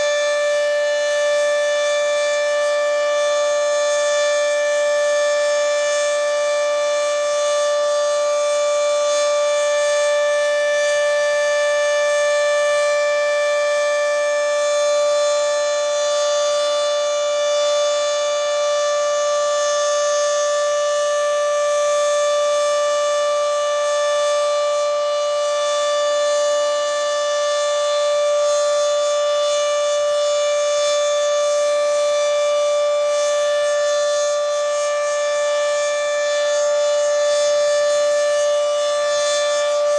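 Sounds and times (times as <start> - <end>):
rotating siren dual-tone wail: 0.0 - 39.9.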